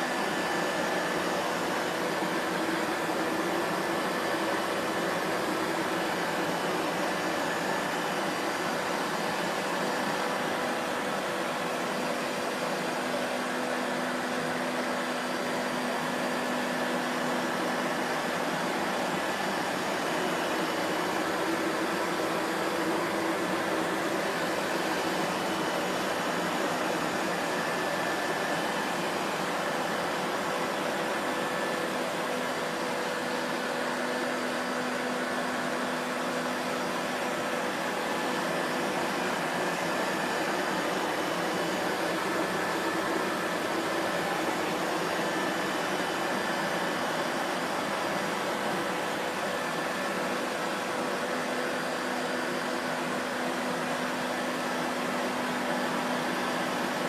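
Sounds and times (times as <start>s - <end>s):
vacuum cleaner motor: 0.0s - 57.0s.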